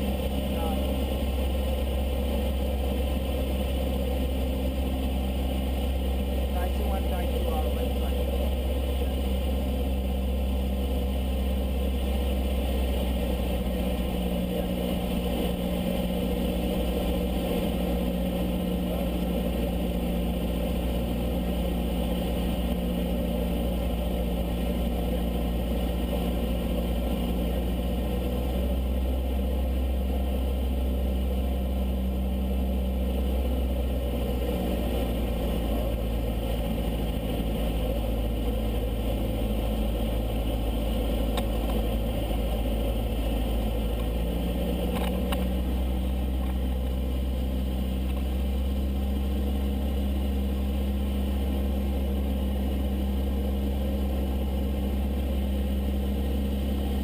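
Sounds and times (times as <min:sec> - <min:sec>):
light aircraft engine droning: 0:00.0 - 0:57.0.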